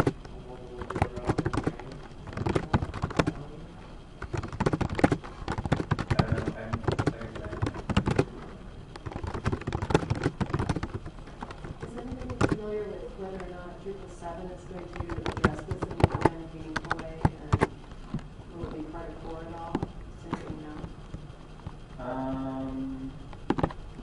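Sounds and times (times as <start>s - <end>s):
computer keyboard typing: 0.0s - 3.5s, 4.2s - 12.7s, 14.7s - 24.0s.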